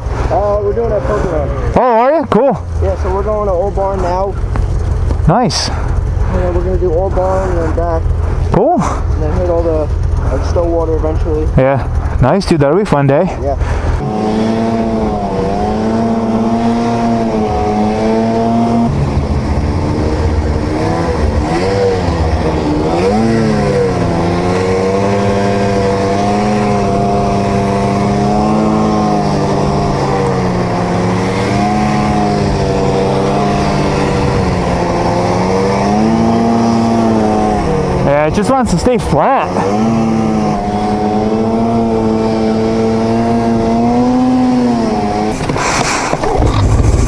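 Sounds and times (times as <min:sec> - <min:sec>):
snowmobile engine running: 0:00.0 - 0:47.0.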